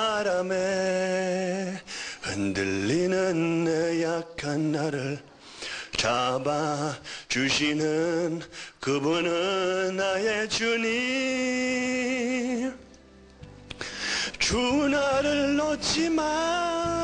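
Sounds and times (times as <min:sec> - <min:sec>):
man singing slow devotional song: 0:00.0 - 0:13.0, 0:13.7 - 0:17.0.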